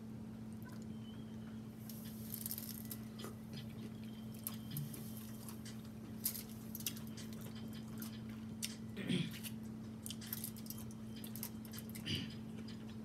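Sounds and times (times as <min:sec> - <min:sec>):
person chewing food: 0:01.8 - 0:13.0.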